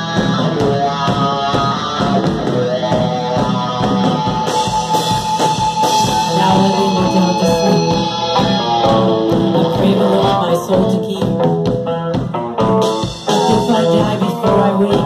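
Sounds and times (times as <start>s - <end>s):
drum kit steady beat: 0.0s - 15.0s
electric guitar: 0.0s - 15.0s.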